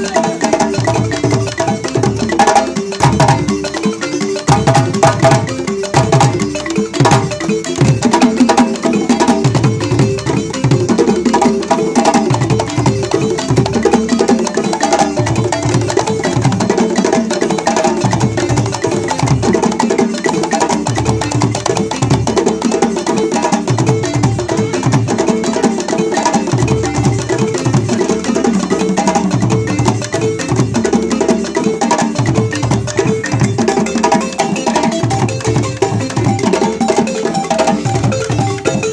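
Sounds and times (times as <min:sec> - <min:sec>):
balafon melody: 0:00.0 - 0:38.9
djembe hand drum strokes: 0:00.0 - 0:38.9.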